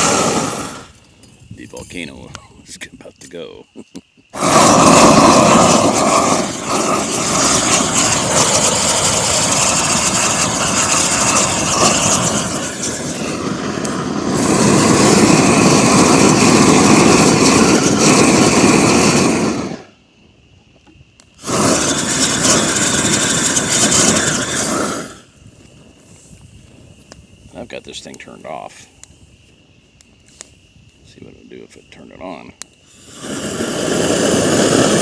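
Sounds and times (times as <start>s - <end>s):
torch flame rushing hiss: 0.0s - 2.8s, 4.3s - 20.5s, 21.1s - 35.0s.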